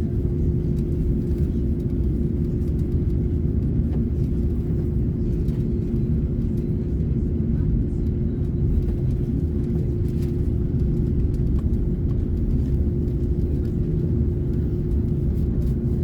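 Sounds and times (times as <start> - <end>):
constant hum: 0.0 - 16.0
jet engine rumble in cabin: 0.0 - 16.0.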